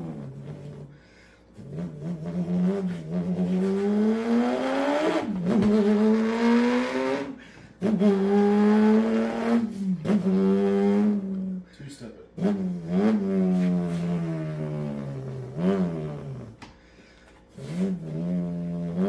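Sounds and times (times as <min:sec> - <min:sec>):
man imitating car engine: 0:00.0 - 0:01.0, 0:01.6 - 0:16.6, 0:17.6 - 0:19.0.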